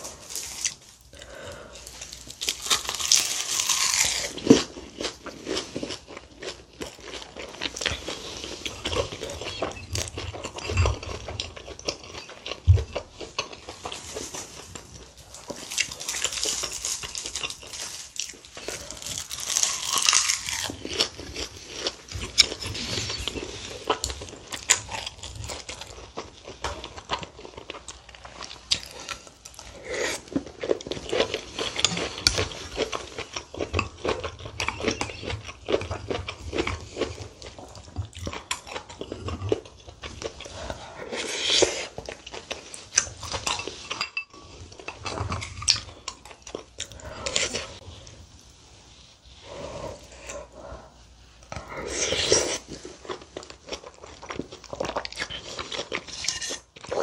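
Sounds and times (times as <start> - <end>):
crisp crackly crunching: 0.0 - 50.3
soft wet chewing: 0.0 - 57.0.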